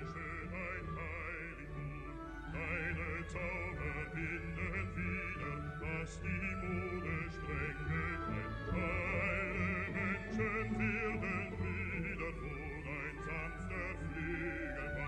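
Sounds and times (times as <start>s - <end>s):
low musical accompaniment: 0.0s - 15.0s
operatic voice singing: 0.0s - 15.0s.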